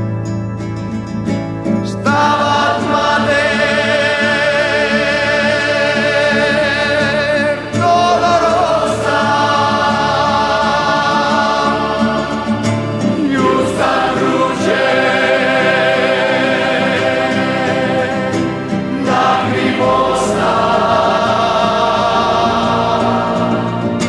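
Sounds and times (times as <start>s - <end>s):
acoustic guitar: 0.0s - 24.0s
choir singing held notes: 1.8s - 24.0s.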